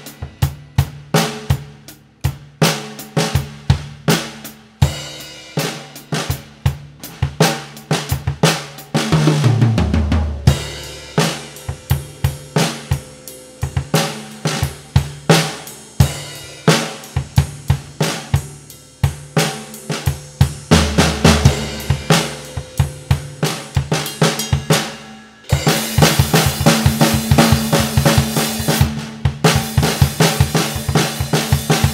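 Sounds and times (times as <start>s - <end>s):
drum kit groove: 0.0s - 31.9s
tom drum fill: 5.9s - 31.9s.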